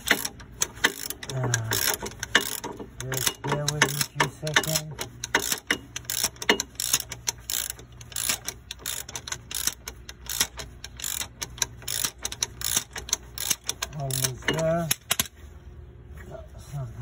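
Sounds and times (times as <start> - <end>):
socket ratchet clicking: 0.0 - 15.3.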